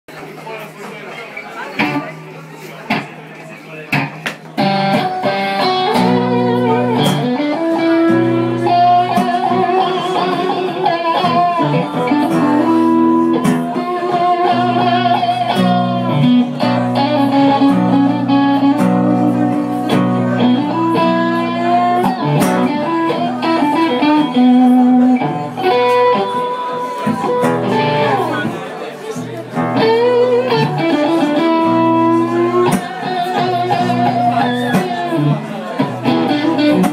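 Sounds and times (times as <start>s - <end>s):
blues guitar playing: 1.8s - 36.9s.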